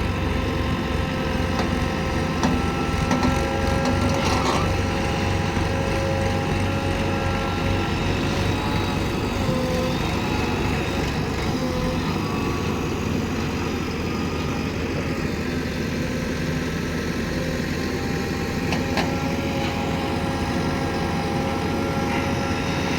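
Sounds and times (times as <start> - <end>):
diesel engines running: 0.0 - 22.9.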